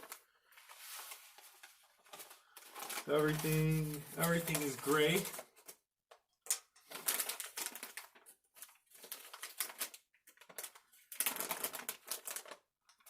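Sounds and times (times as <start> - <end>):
granules crunching and rustling: 0.0 - 5.8, 6.8 - 12.6
plastic bag being kneaded: 0.8 - 5.4, 6.8 - 12.7.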